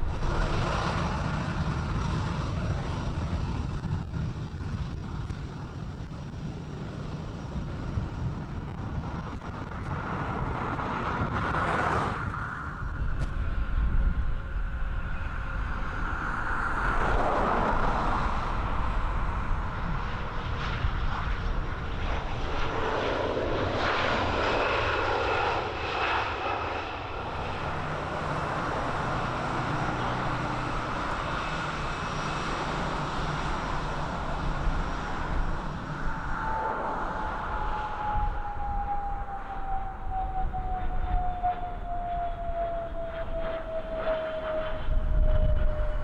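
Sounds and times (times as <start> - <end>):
airplane engines running: 0.0 - 46.0.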